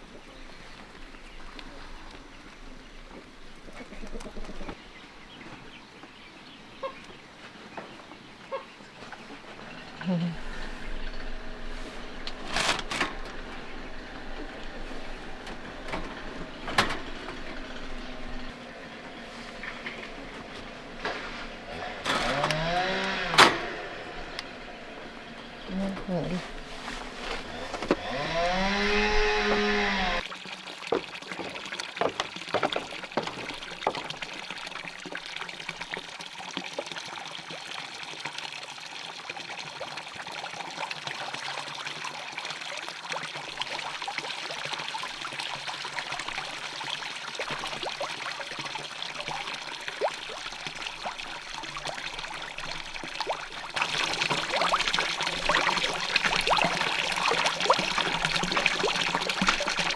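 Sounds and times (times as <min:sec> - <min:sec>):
light clicks and splashes: 0:00.0 - 0:38.5, 0:41.0 - 0:59.9
water pouring and trickling: 0:00.0 - 0:59.9.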